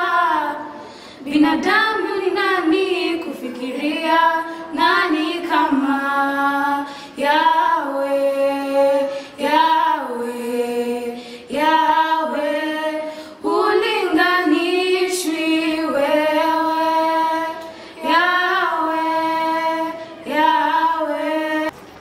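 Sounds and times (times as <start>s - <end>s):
girls singing a cappella: 0.0s - 21.8s.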